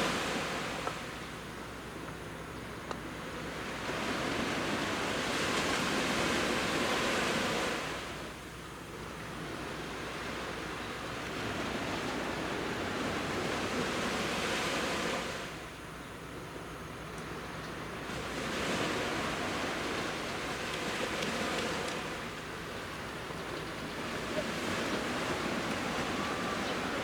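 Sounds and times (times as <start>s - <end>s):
sea waves breaking on beach: 0.0s - 1.4s, 3.1s - 15.7s, 17.8s - 27.0s.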